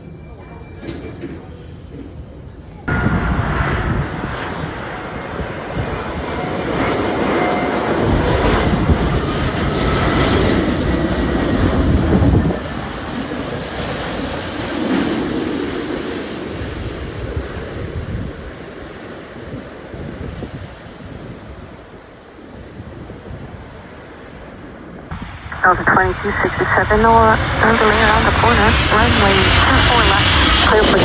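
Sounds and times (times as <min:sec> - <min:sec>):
jet airliner passing: 0:00.0 - 0:31.0.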